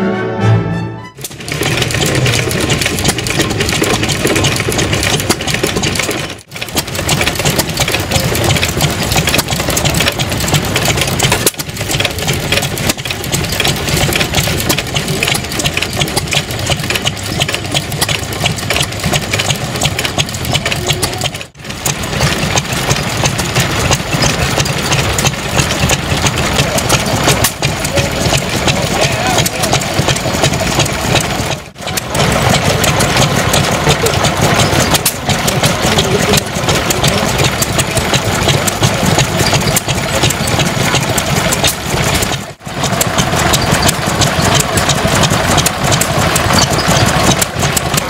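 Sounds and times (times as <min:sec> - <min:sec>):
stationary engines clattering: 0:01.2 - 0:48.0.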